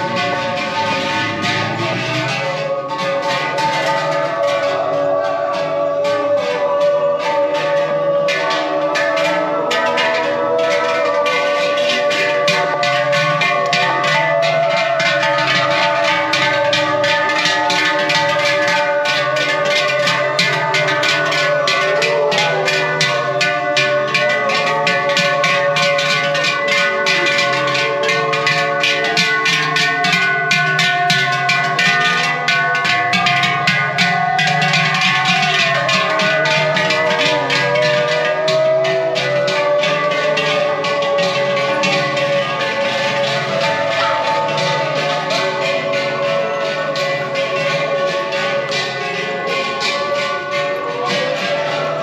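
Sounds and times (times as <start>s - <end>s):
cowbells clanging: 0.0s - 52.0s.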